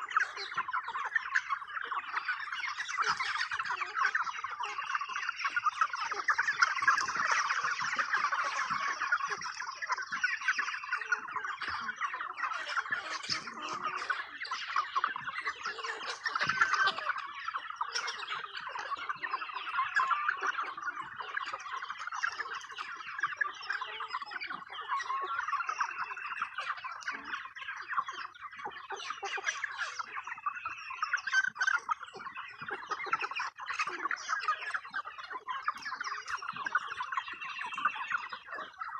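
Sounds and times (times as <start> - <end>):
chickens clucking and squawking: 0.0 - 38.9.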